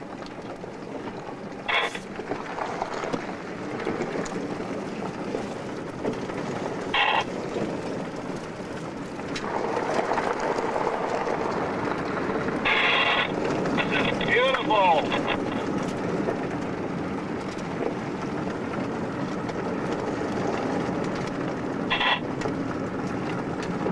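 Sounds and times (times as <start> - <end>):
rushing vehicle noise: 0.0 - 23.9.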